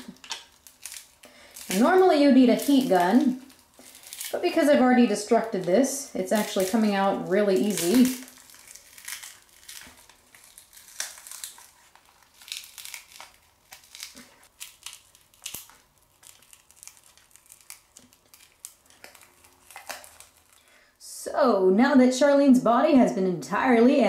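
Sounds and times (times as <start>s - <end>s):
cracked glass crackling: 0.0s - 20.8s.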